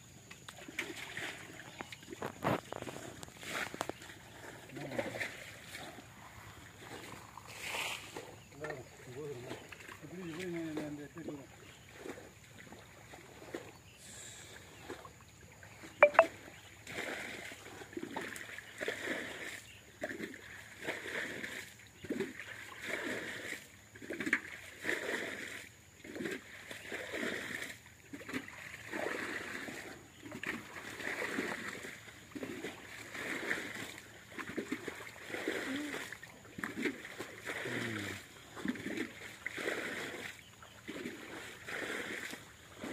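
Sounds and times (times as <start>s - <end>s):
water and mud splashing: 0.0s - 42.9s.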